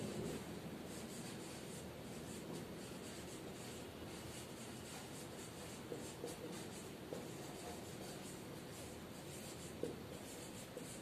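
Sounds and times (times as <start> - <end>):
marker writing on whiteboard: 0.3 - 11.0.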